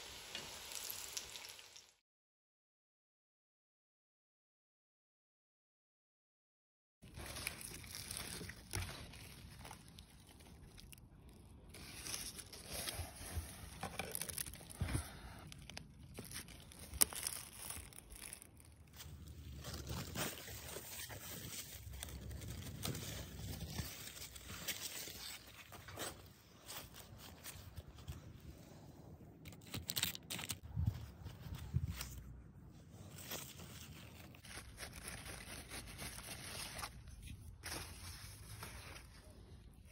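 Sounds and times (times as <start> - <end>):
plant leaves rustling: 7.0 - 28.7, 29.6 - 39.9.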